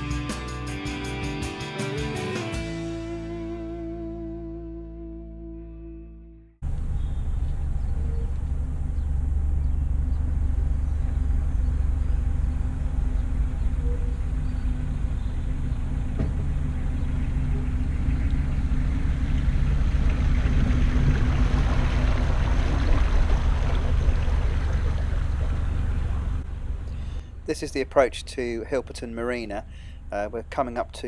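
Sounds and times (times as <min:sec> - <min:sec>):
boat engine droning: 0:02.1 - 0:31.0.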